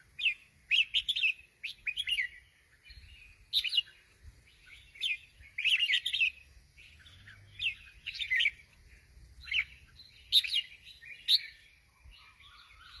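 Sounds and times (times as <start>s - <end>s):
bulbul singing: 0.0s - 13.0s.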